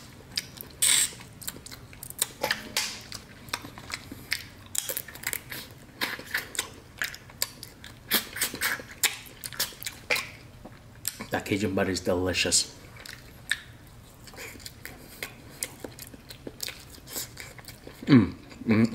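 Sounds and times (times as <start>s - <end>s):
wet chewing: 0.0s - 11.4s, 12.8s - 18.9s.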